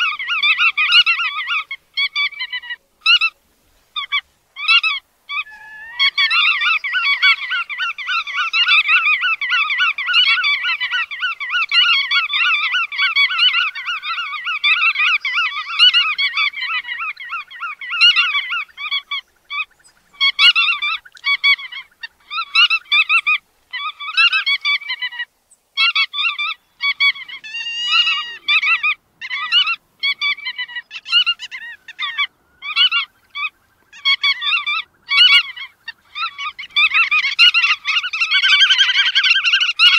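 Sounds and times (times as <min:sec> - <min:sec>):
godwits calling: 0:00.0 - 0:39.9.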